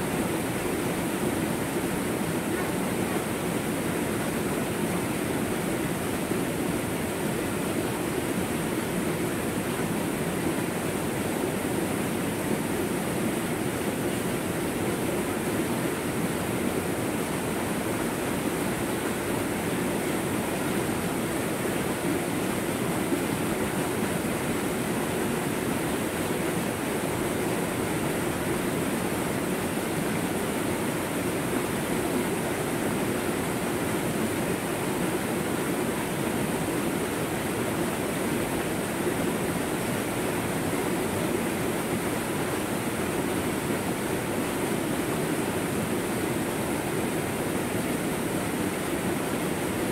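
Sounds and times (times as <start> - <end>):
waterfall rushing over boulders: 0.0 - 49.9.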